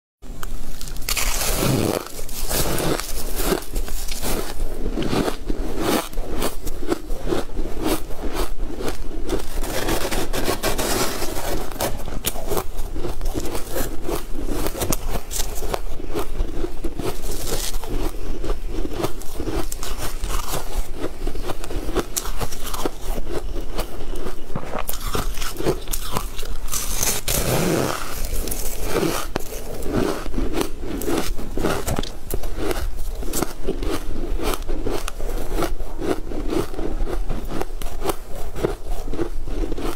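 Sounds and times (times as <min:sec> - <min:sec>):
crunching and chewing: 0:00.3 - 0:39.9.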